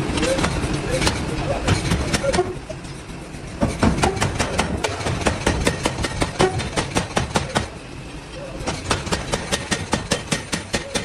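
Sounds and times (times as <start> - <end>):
low machinery rumble: 0.0 - 11.0
sharp metal knocks: 0.2 - 2.6, 3.6 - 7.8, 8.6 - 11.0.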